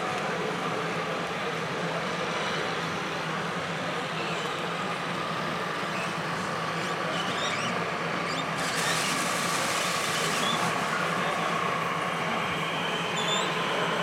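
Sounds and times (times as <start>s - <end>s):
busy hall noise: 0.0s - 14.0s.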